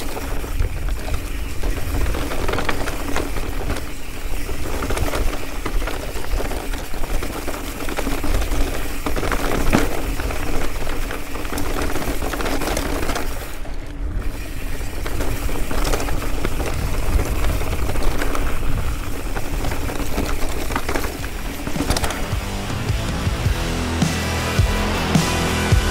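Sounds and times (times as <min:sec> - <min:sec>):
wind rushing over microphone: 0:00.0 - 0:12.4, 0:13.2 - 0:22.0
bike rattling over rocks: 0:00.0 - 0:23.0.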